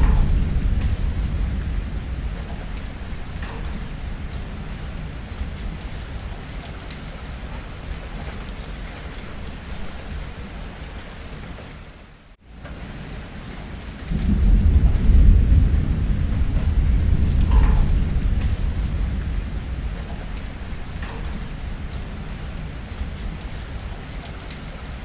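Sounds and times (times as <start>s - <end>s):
thunder rumbling: 0.0s - 11.0s, 12.6s - 25.0s
steady rain falling: 0.0s - 25.0s.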